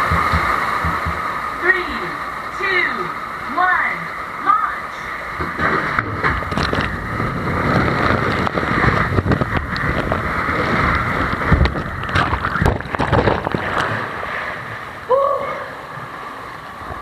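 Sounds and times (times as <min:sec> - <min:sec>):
water rushing and spraying: 0:00.0 - 0:17.0.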